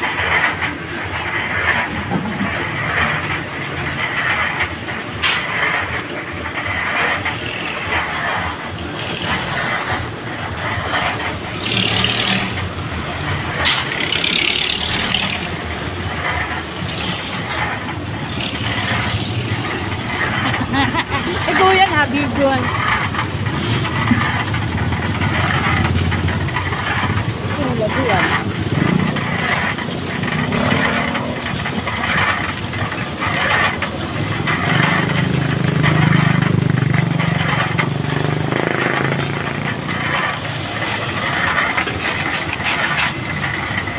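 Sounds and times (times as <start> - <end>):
concrete mixer engine running: 0.0 - 43.9.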